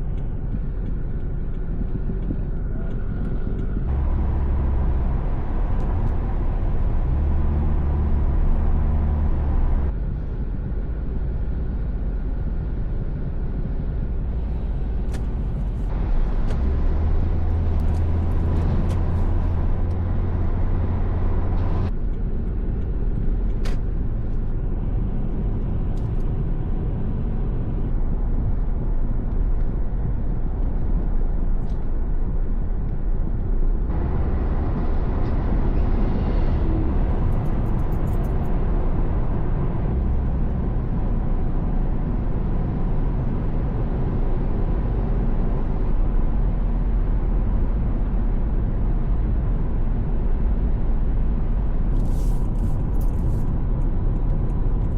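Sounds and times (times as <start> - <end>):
road vehicle rumble: 0.0 - 54.9.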